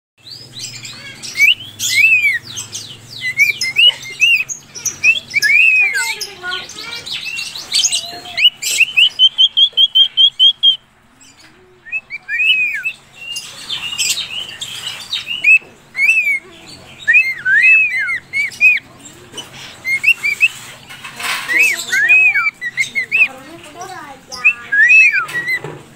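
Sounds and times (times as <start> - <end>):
raspy bird calls: 0.2 - 25.7
cockatiels chirping: 0.3 - 10.8, 11.9 - 25.8.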